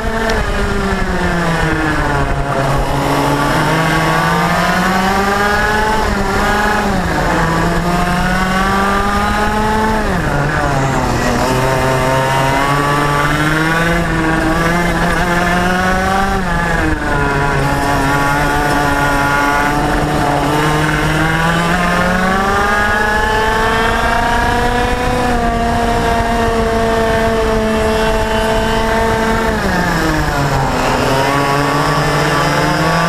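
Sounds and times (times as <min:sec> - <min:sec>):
kart engine at full throttle: 0:00.0 - 0:33.0.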